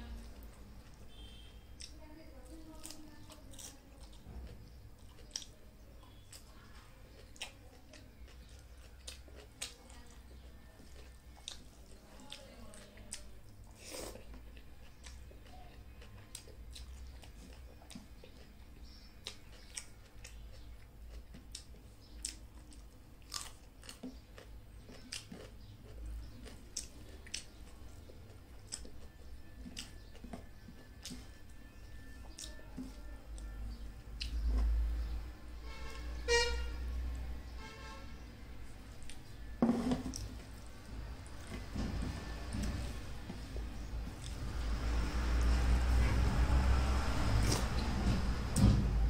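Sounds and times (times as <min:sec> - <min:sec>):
person chewing food: 0:02.7 - 0:35.1, 0:37.8 - 0:45.9.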